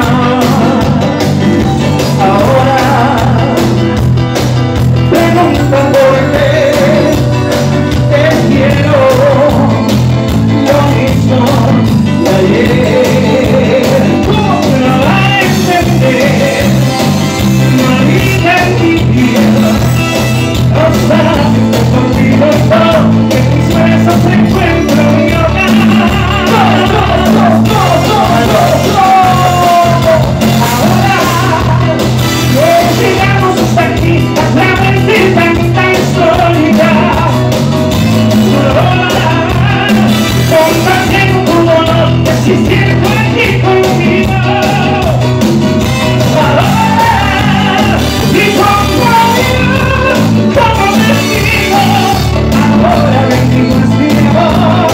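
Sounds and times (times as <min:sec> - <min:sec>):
latin band playing: 0:00.0 - 0:54.9
person singing: 0:00.0 - 0:54.9.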